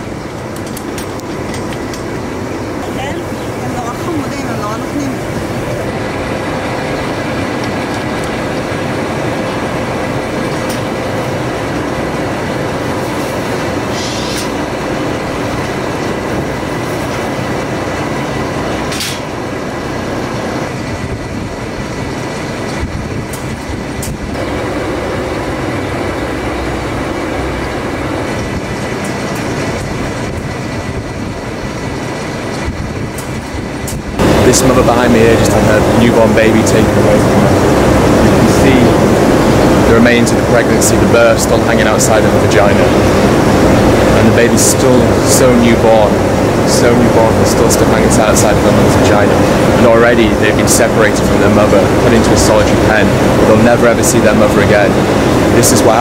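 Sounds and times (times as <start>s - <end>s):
faint constant hum: 0.0s - 56.0s
mechanical running noise: 0.0s - 56.0s.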